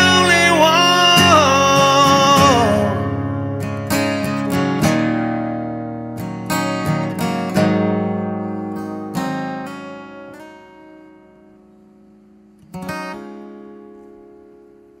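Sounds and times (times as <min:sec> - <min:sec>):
acoustic guitar strums: 0:00.0 - 0:15.0.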